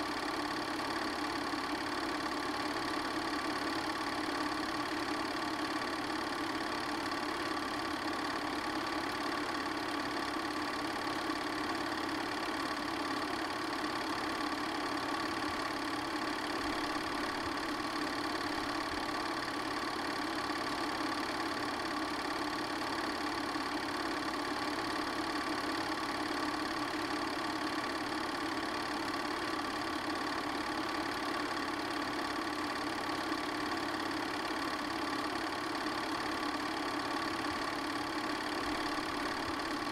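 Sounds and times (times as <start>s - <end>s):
film projector whirring and clattering: 0.0s - 39.9s.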